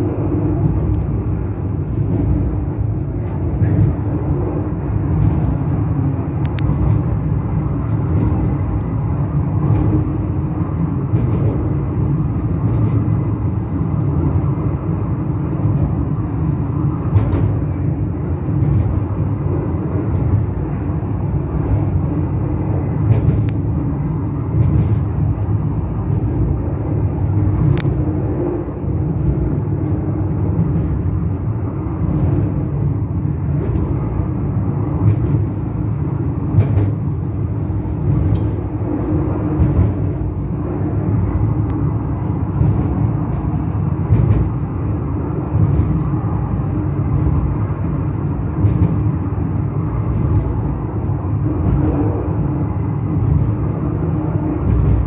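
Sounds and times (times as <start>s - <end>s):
funicular car rumbling on rails: 0.0s - 55.0s.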